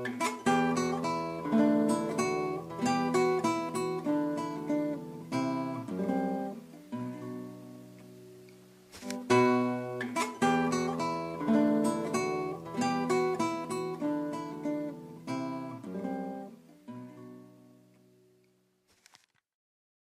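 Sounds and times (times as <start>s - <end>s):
acoustic guitar music: 0.0s - 18.8s.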